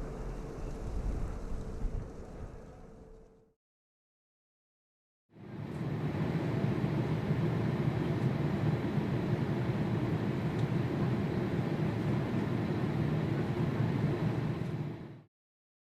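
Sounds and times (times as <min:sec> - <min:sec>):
jet engines rumbling: 0:00.0 - 0:03.5, 0:05.4 - 0:15.3.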